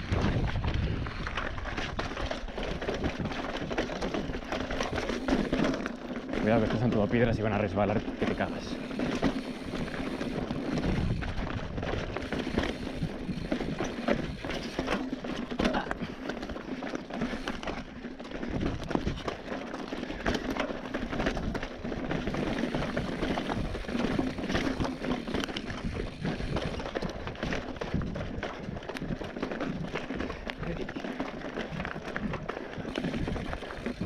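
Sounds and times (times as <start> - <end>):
bike rattling and clattering: 0.0 - 34.0.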